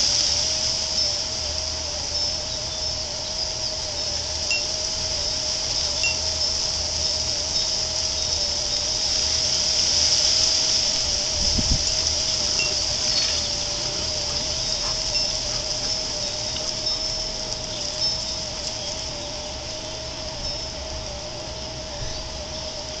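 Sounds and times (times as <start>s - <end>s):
constant low hum: 0.0s - 23.0s
steady high hiss: 0.0s - 23.0s.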